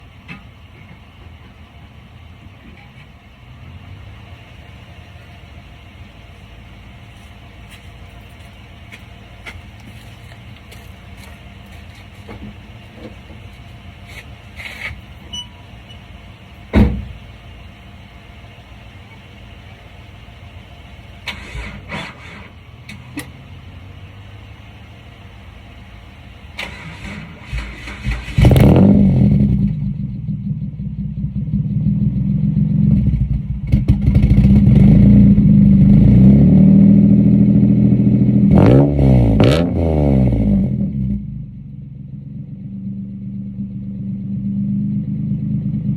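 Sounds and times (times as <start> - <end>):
car engine running and revving: 2.2 - 45.9.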